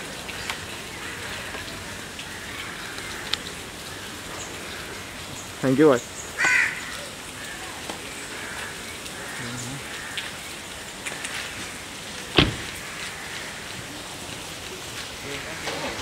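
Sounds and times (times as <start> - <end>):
light rain hissing: 0.0 - 16.0.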